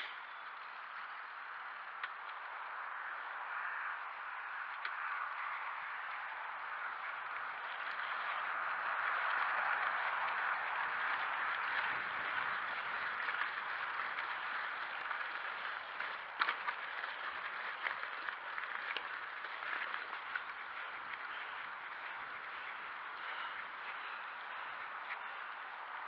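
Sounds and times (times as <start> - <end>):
bike clicks and knocks: 0.0 - 26.0
bike tyres crunching on gravel: 0.0 - 26.0.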